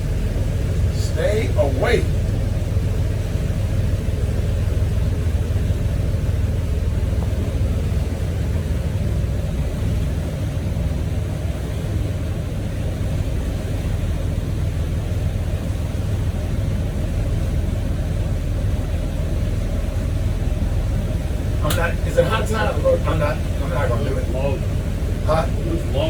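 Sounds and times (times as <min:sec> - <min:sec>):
boat engines rumbling: 0:00.0 - 0:26.0.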